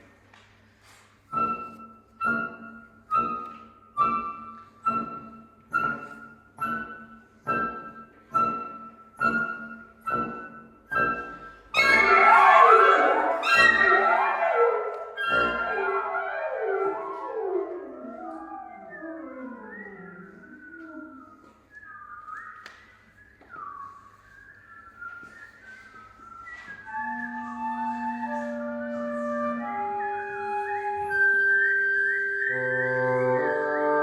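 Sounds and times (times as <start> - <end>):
wind ensemble chamber music: 1.3 - 22.0, 26.2 - 34.0.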